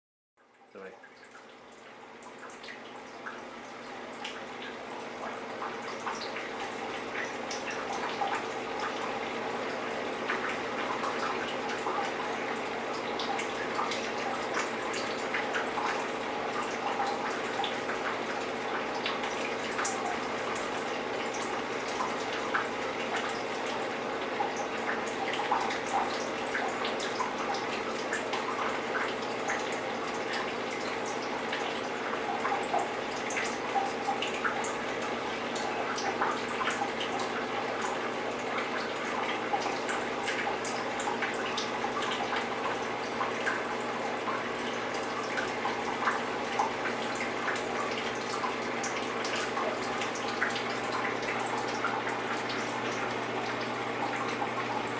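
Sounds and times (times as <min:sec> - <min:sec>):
water dripping: 0:00.4 - 0:54.9
water running: 0:00.7 - 0:54.9.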